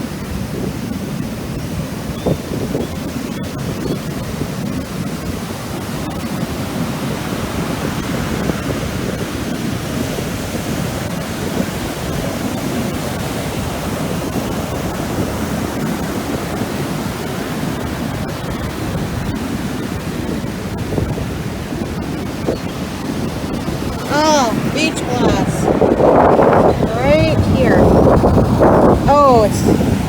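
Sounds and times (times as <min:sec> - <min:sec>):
ocean surf roaring: 0:00.0 - 0:30.0.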